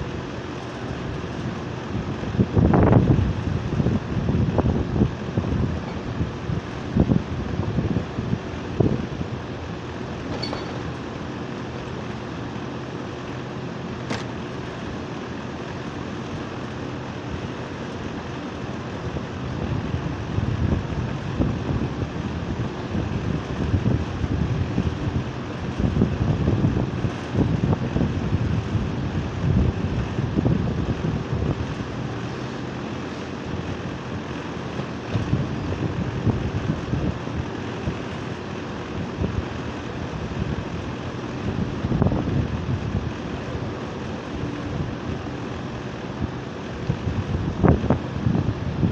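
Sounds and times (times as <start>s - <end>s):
air conditioner hum: 0.0s - 48.9s
wind buffeting microphone: 0.9s - 11.8s, 19.1s - 48.9s.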